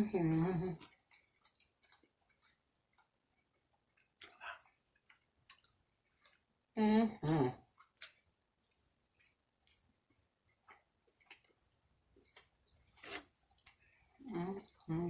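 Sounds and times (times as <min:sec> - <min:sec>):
person chewing food: 0:00.8 - 0:06.7, 0:07.6 - 0:14.9.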